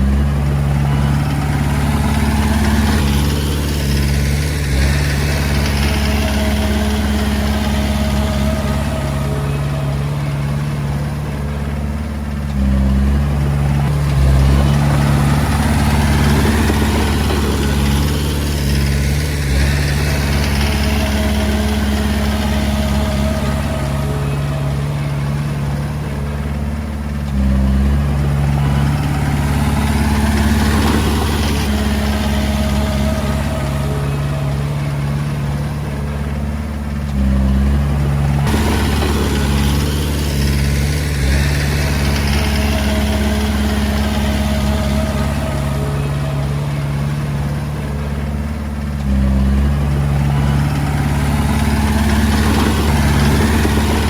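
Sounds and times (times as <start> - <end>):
bulldozer diesel engine droning: 0.0 - 54.0.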